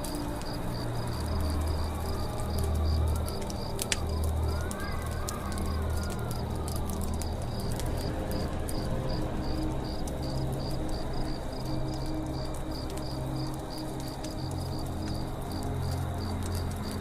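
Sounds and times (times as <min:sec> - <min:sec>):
campfire crackling and popping: 0:00.0 - 0:17.0
crickets chirping: 0:00.0 - 0:17.0.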